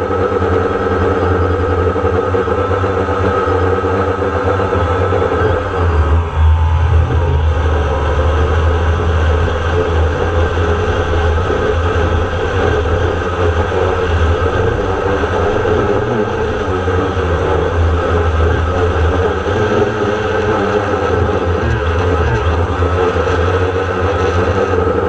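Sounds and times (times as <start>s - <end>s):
drone propellers humming: 0.0s - 25.0s.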